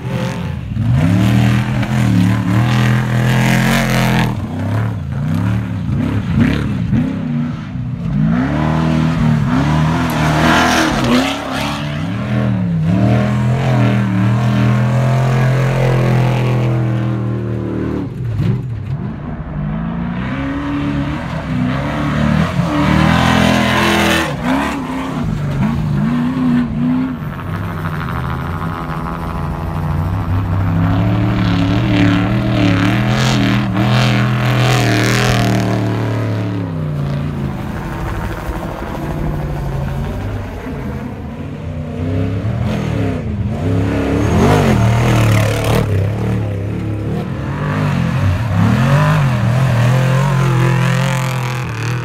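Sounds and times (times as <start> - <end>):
race truck engines revving: 0.0 - 52.0.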